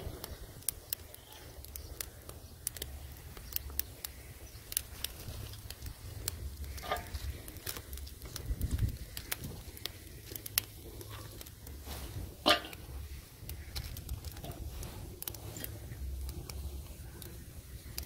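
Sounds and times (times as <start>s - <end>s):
sharp crack: 0.0s - 18.0s
twig fire crackling and popping: 0.0s - 18.0s
sticks rustling: 0.1s - 18.0s.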